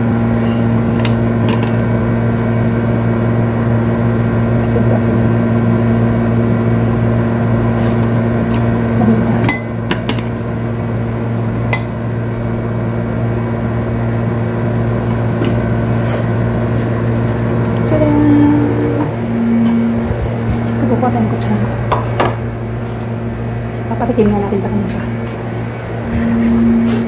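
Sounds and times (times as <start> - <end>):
kitchen appliance electrical hum: 0.0 - 27.0.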